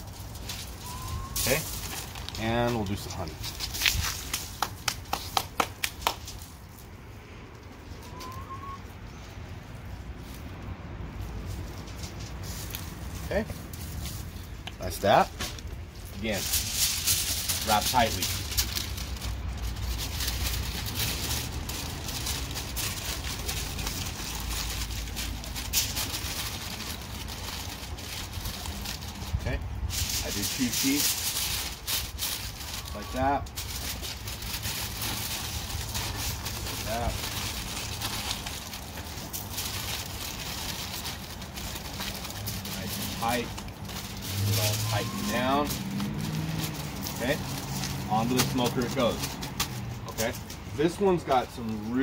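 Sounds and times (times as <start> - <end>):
aluminium foil crinkling: 0.0 - 8.4, 9.1 - 52.0.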